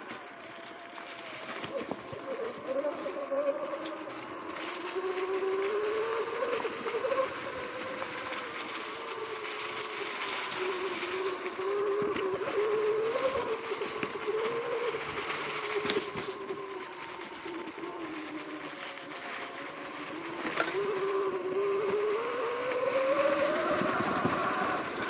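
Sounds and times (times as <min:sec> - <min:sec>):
electric motorbike drivetrain whining: 0:00.0 - 0:25.0
tyre and wind noise: 0:00.0 - 0:25.0.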